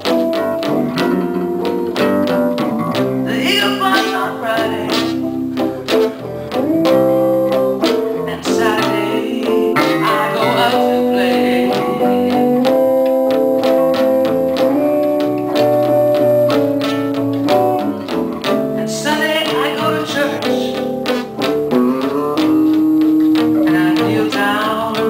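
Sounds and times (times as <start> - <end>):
bass line: 0.0 - 25.0
slow blues band on guitars: 0.0 - 25.0.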